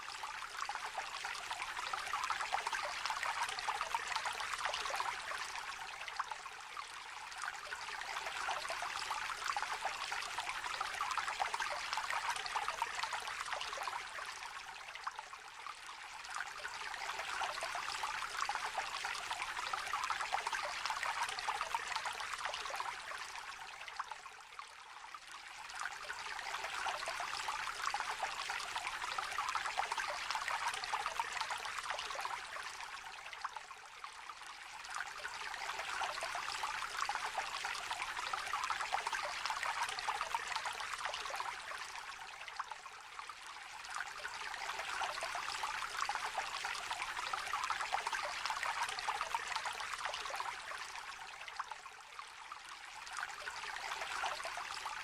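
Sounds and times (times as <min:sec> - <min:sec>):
small river trickling: 0:00.0 - 0:55.0.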